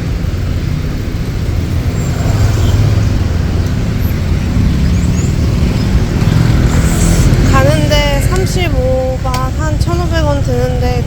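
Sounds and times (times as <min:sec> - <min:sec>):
road traffic noise: 0:00.0 - 0:11.0
vehicle engine rumbling: 0:00.0 - 0:11.0.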